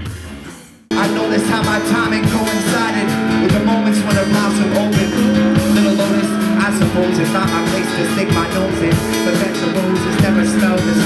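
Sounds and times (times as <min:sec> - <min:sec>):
drum kit playing: 0:00.0 - 0:11.0
acoustic guitar: 0:00.9 - 0:11.0
held low notes: 0:00.9 - 0:11.0.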